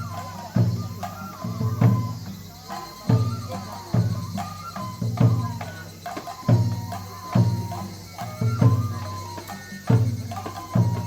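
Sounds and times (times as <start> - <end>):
bamboo flute melody: 0.0 - 11.0
taiko drum beats: 0.0 - 11.0.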